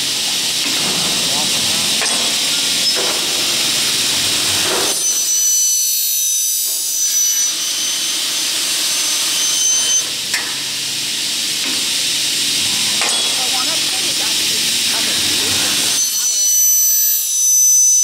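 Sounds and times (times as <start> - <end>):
cutting saw hiss: 0.0 - 18.0
high-pitched blade whine: 1.4 - 10.2, 12.0 - 18.0.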